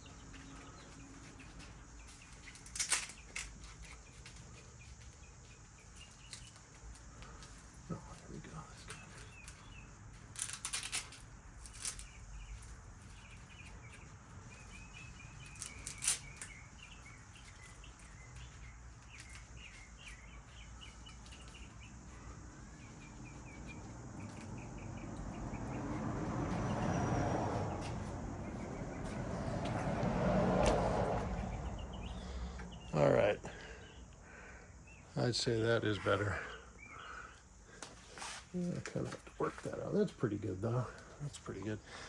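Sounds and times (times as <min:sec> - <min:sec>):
small bird chirping: 0:00.0 - 0:41.9.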